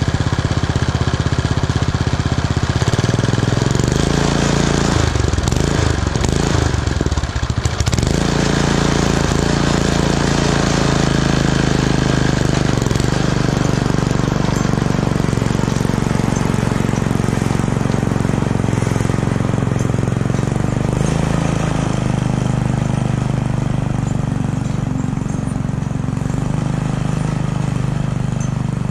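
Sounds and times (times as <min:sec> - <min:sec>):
small engine running: 0:00.0 - 0:28.9.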